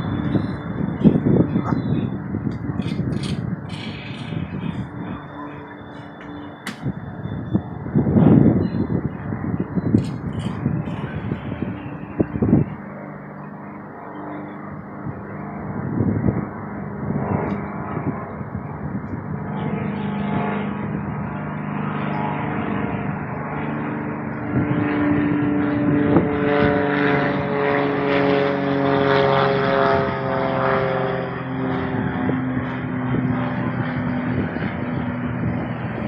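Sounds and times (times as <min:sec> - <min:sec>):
airship propeller engines droning: 0:00.0 - 0:36.0.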